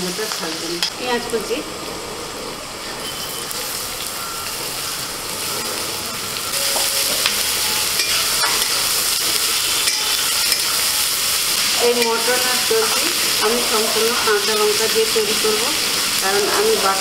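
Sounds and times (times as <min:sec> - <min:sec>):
onion sizzling in oil: 0:00.0 - 0:17.0.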